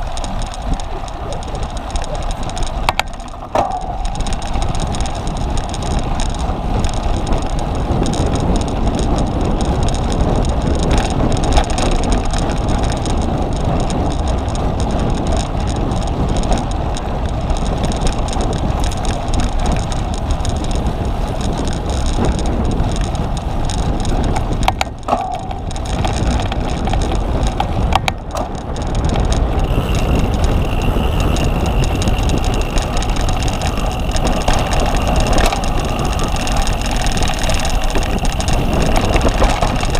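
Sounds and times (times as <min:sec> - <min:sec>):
bike tyres and frame rattling: 0:00.0 - 0:39.9
wind on microphone: 0:00.0 - 0:39.9.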